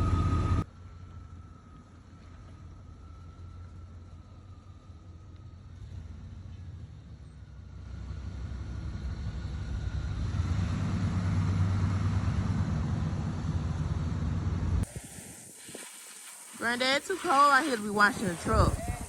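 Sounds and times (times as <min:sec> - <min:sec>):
pickup truck engine running: 0:00.0 - 0:15.5.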